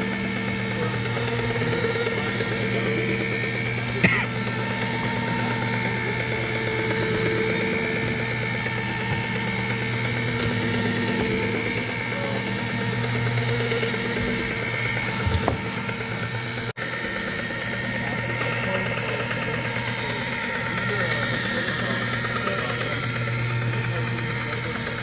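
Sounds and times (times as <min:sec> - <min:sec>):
electric motor running: 0:00.0 - 0:25.0.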